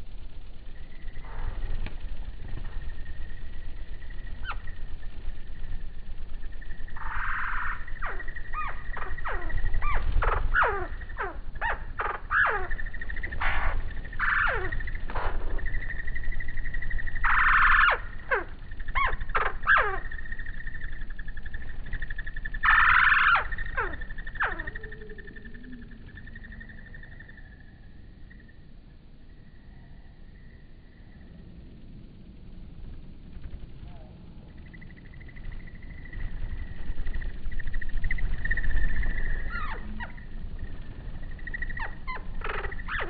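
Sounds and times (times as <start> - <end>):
hummingbirds chirping: 0.0 - 43.0.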